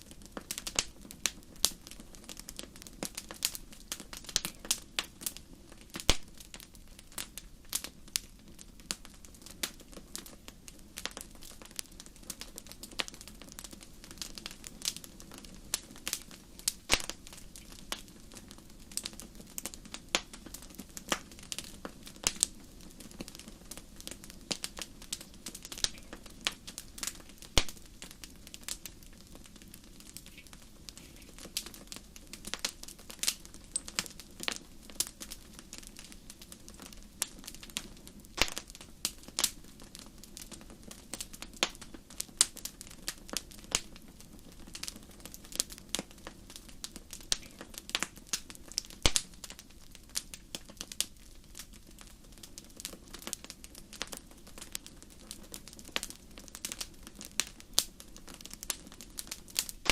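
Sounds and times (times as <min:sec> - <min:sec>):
burning logs crackling and popping: 0:00.0 - 0:59.9
low rumble of flame: 0:00.0 - 0:59.9.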